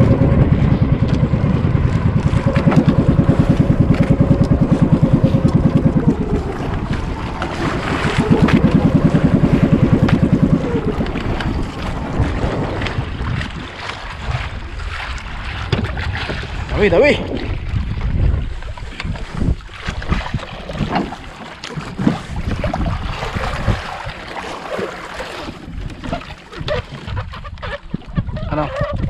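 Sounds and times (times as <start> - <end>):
boat engine chugging: 0.0 - 18.0, 20.6 - 29.0.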